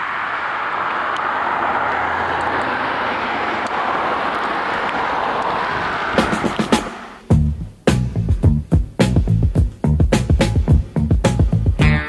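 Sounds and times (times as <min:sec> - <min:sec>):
road traffic rushing: 0:00.0 - 0:11.8
deep engine hum: 0:00.0 - 0:12.0.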